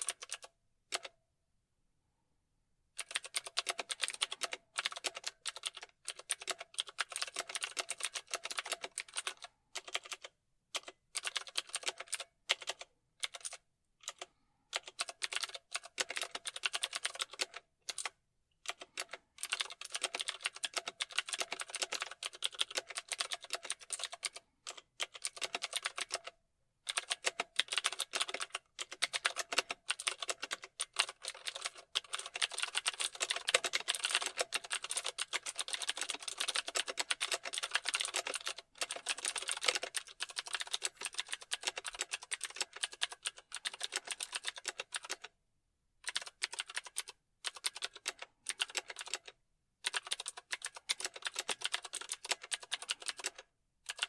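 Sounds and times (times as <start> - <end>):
fast typing on keyboard: 0.0 - 1.1, 3.0 - 45.4, 46.0 - 54.0.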